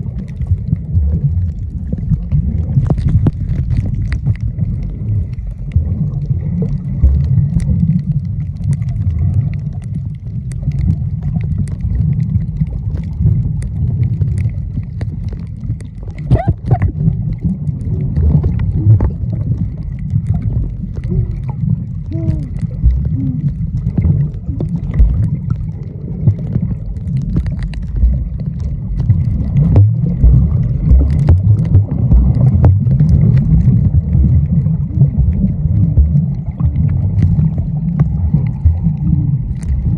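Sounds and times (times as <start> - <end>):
bubbling glides: 0.0 - 39.9
muffled underwater water rushing: 0.0 - 39.9.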